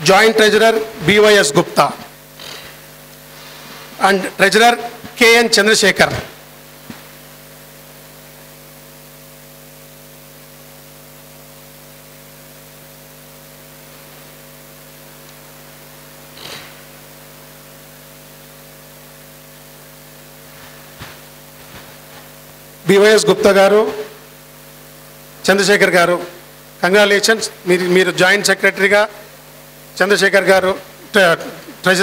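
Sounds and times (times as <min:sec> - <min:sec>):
electrical mains hum with hiss: 0:00.0 - 0:32.0.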